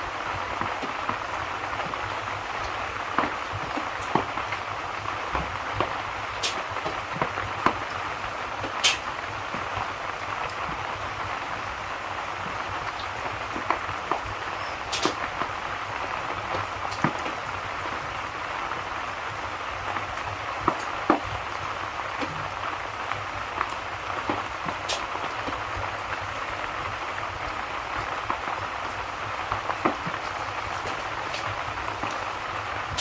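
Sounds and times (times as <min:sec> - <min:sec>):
steady rain: 0:00.0 - 0:33.0
wood fire crackling: 0:00.1 - 0:33.0.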